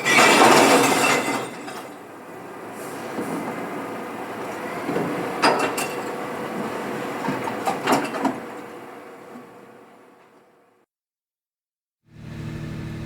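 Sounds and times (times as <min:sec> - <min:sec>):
rail vehicle rumbling: 0:00.0 - 0:10.8.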